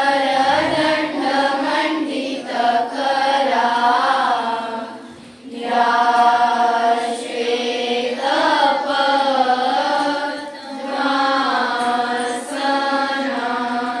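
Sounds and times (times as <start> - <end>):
voices chanting a prayer in unison: 0.0 - 14.0.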